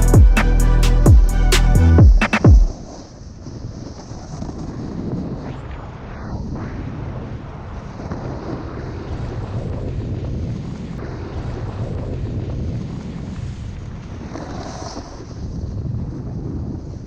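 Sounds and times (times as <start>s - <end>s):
wind buffeting microphone: 2.7s - 17.0s.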